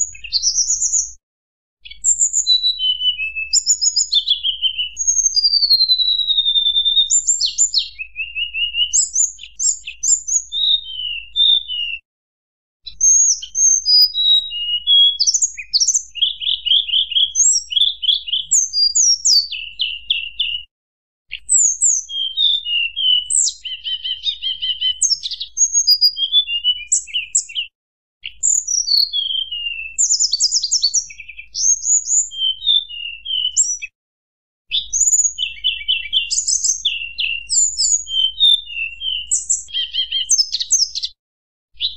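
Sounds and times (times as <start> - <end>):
bird singing whistled trills: 0.0 - 1.2, 1.8 - 12.0, 12.9 - 20.7, 21.3 - 34.0, 34.7 - 41.2.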